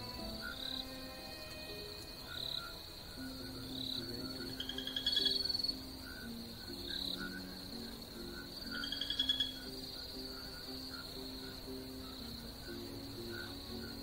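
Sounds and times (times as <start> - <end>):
high insect trill: 0.0 - 14.0
rapid pulsed frog calls: 0.0 - 14.0.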